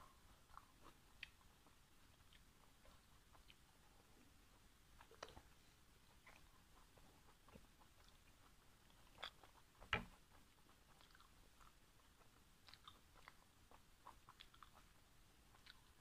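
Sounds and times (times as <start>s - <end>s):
person chewing with wet clicks: 0.0s - 16.0s.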